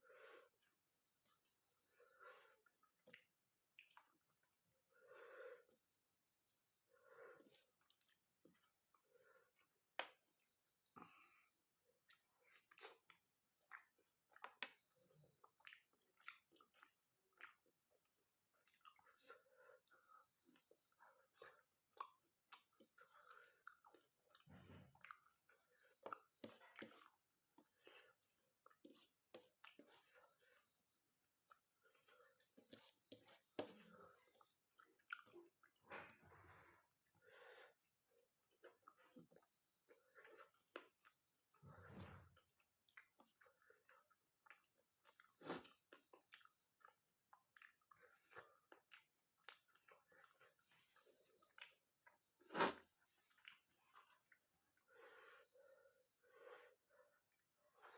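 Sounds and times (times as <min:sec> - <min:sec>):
wet chewing and mouth smacks: 0:00.6 - 0:05.0, 0:06.3 - 0:56.1, 0:56.9 - 0:57.9.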